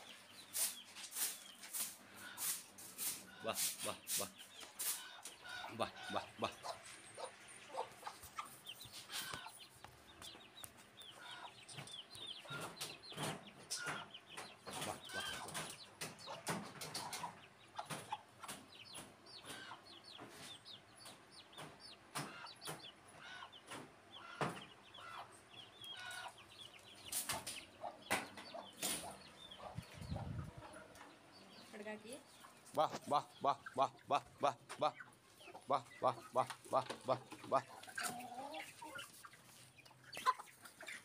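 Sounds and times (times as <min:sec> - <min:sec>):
chicks peeping and clucking: 0:00.0 - 0:41.0.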